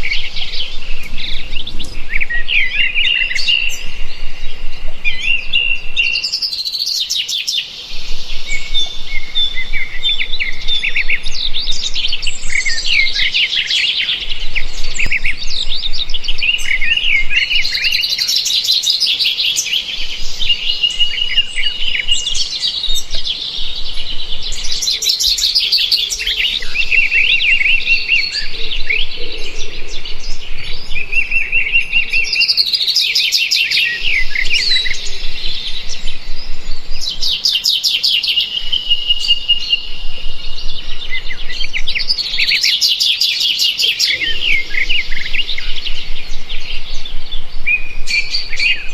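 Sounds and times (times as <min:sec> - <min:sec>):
birds chirping and singing: 0:00.0 - 0:48.9.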